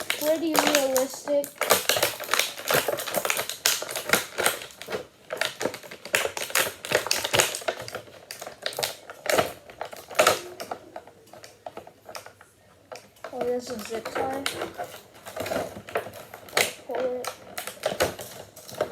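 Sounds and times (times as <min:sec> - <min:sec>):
plastic packaging crinkling and clicking: 0:00.0 - 0:18.9.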